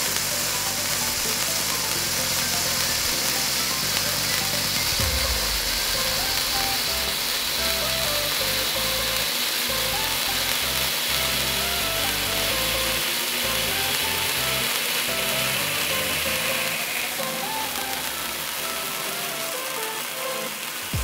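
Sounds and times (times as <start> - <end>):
electronic music: 0.0 - 21.0
sparklers hissing: 0.0 - 21.0.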